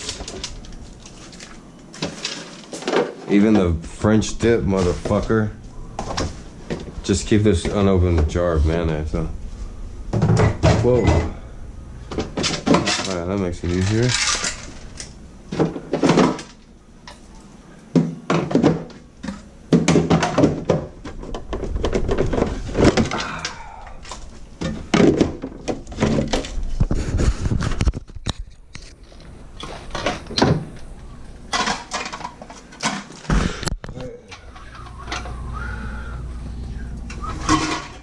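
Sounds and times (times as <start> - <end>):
items knocking and clattering: 0.0 - 8.5, 10.1 - 11.4, 12.1 - 17.3, 17.9 - 35.3, 37.2 - 38.0.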